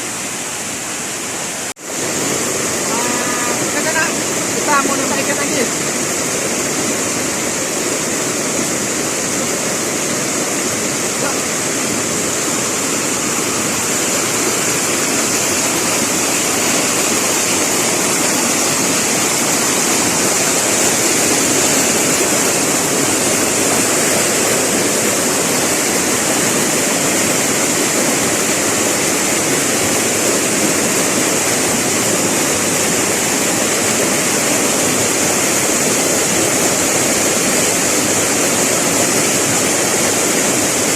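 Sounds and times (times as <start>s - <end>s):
fast-flowing river water: 0.0s - 40.9s.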